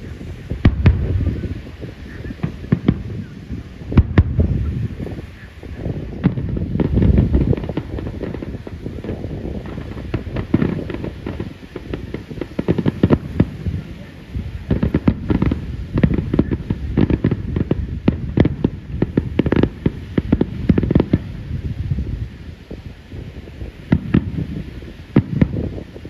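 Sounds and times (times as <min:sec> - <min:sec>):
fireworks booms and crackles: 0:00.0 - 0:26.0.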